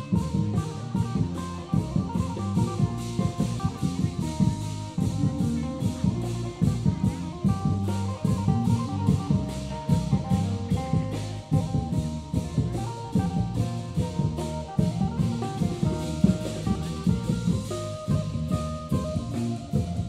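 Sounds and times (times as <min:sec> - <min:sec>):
drum band playing upbeat music: 0:00.0 - 0:20.0.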